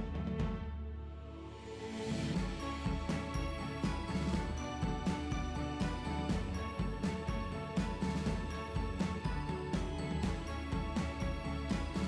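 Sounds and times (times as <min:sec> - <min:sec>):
background music with steady beat: 0:01.8 - 0:12.0.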